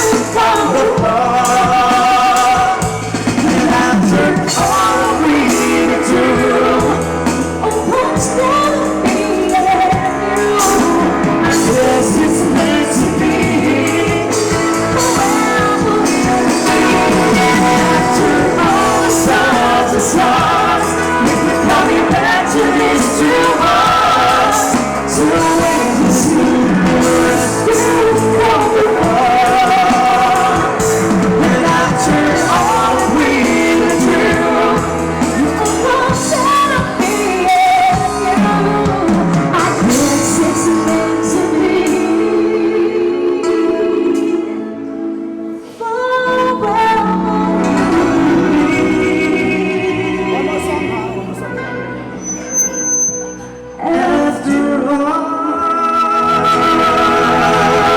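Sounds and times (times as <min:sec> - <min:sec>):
pop-rock song with singing: 0:00.0 - 0:57.9.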